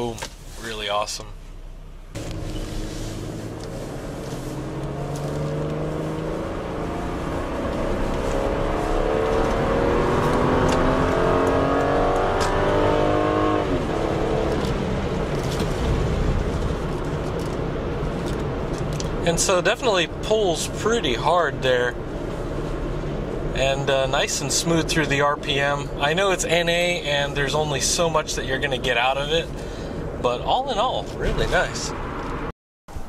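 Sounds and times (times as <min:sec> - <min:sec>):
car engine accelerating hard: 0:02.1 - 0:29.6.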